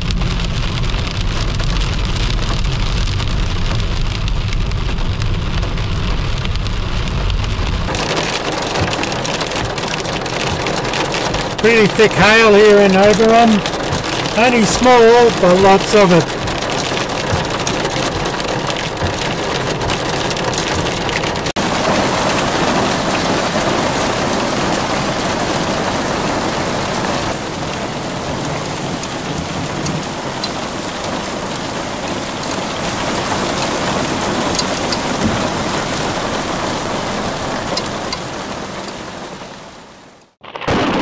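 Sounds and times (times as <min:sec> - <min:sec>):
hail striking the ground: 0:00.0 - 0:41.0.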